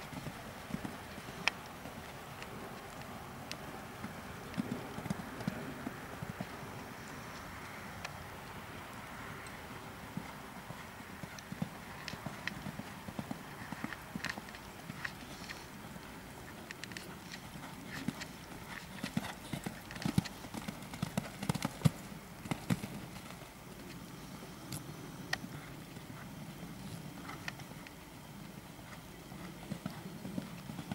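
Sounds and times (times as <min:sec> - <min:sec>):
hoofbeats cantering on sand: 0:00.0 - 0:24.7, 0:25.3 - 0:30.9.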